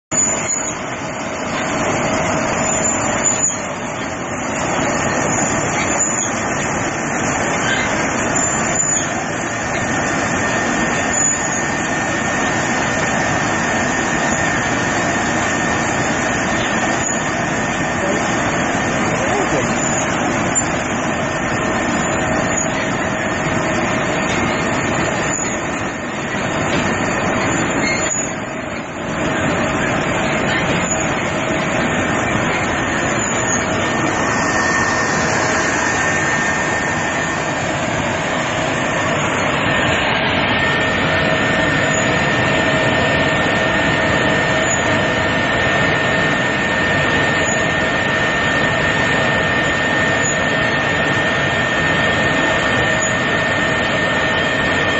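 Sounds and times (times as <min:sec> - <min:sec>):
two-pitch machine whine: 0:00.1 - 0:54.9
machine motor and cutters running: 0:00.2 - 0:54.9.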